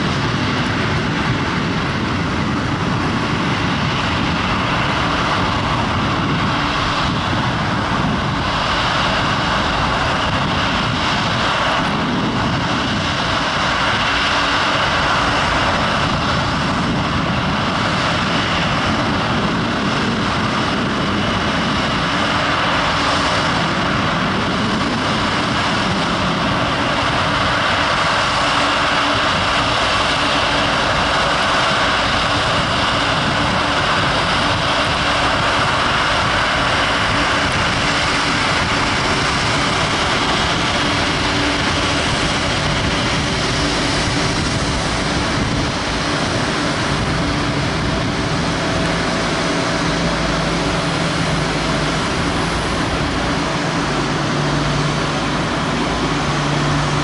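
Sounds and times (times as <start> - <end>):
jet engines rushing and whining: 0.0 - 57.0.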